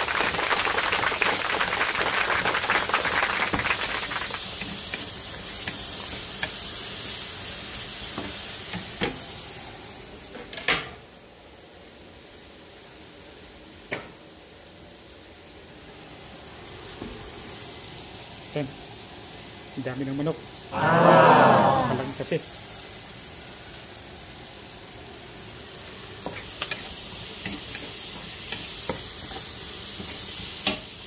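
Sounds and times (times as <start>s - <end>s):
food sizzling in hot oil: 0.0s - 10.3s, 11.6s - 31.0s.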